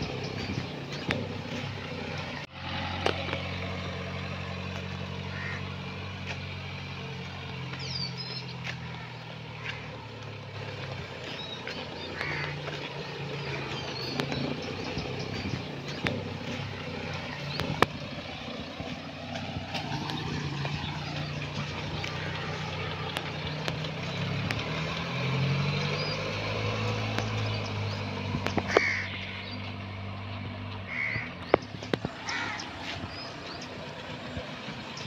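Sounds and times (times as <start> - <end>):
diesel engine running at low revs: 0.0 - 35.0.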